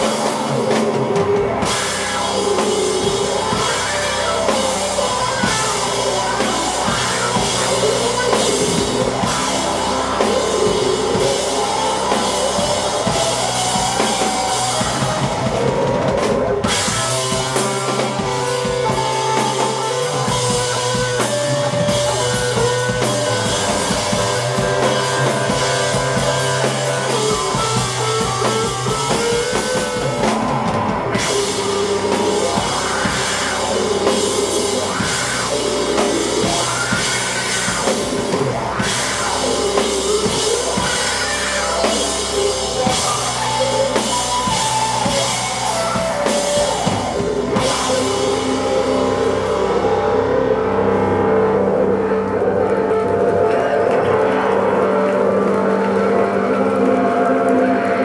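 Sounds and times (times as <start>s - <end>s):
bass line: 0.0s - 58.0s
drum kit: 0.0s - 58.0s
rock band playing: 0.0s - 58.0s.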